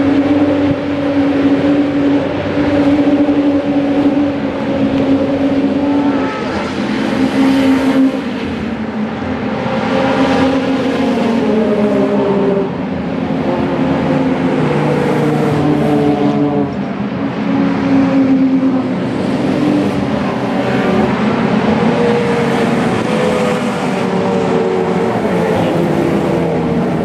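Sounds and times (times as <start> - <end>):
racing car engines passing: 0.0 - 27.0.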